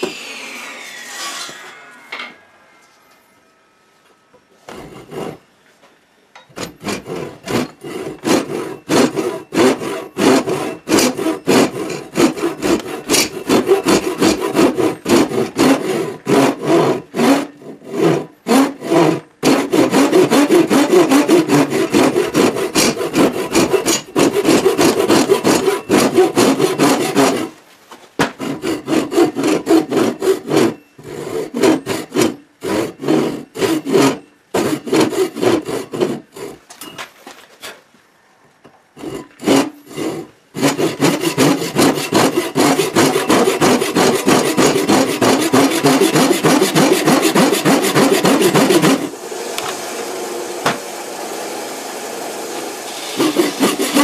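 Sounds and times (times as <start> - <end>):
hand saw cutting wood: 0.0 - 2.8, 4.7 - 5.5, 6.5 - 27.6, 28.2 - 36.8, 39.0 - 54.0.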